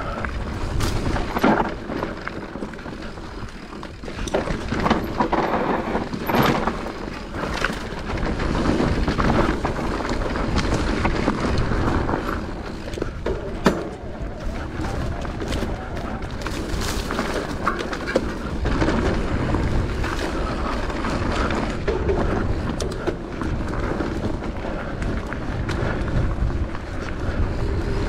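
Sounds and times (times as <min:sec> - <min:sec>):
bike knocking and rattling: 0:00.0 - 0:28.0
tyres rushing on dirt trail: 0:00.0 - 0:28.0.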